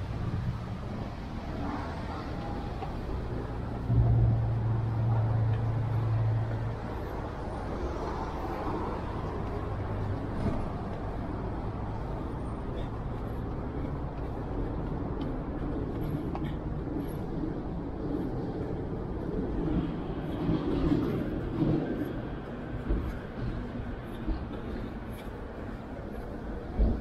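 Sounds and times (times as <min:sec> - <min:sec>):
road traffic rumble: 0:00.0 - 0:27.0
vehicle humming: 0:00.0 - 0:27.0.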